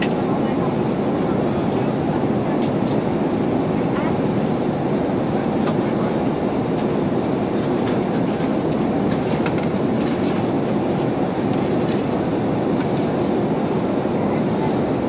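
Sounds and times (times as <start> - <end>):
airplane cabin drone and hiss: 0.0 - 15.0.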